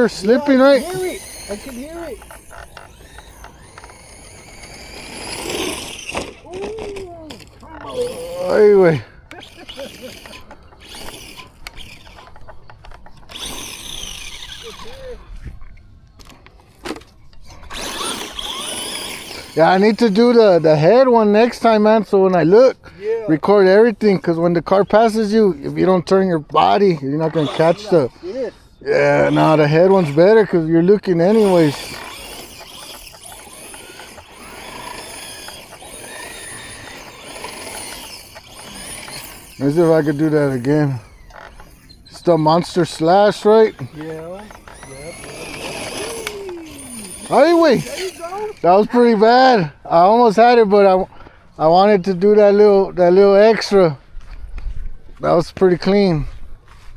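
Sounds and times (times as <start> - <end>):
electric motor whining: 0.0 - 21.8, 23.6 - 28.2, 29.0 - 51.0.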